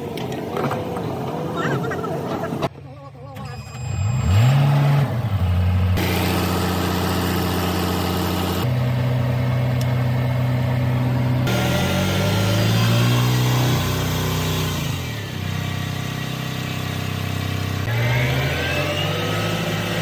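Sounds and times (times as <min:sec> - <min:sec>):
diesel road roller engine revving: 0:03.8 - 0:20.0.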